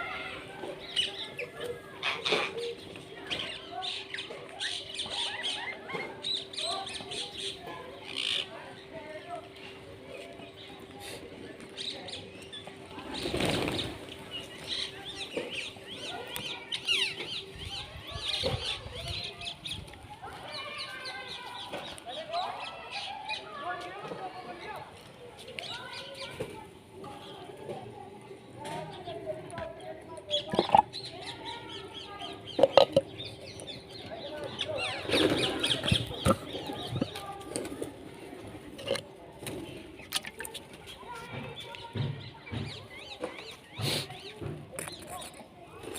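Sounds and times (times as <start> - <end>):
small birds chirping and trilling: 0.0 - 45.9.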